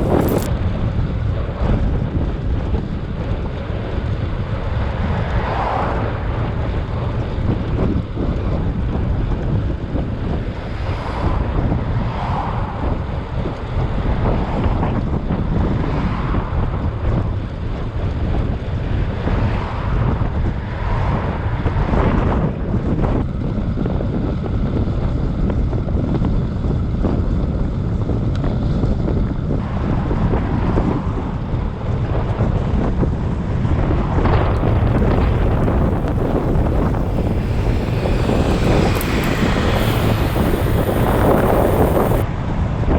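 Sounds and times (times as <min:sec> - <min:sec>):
wind buffeting microphone: 0:00.0 - 0:42.4.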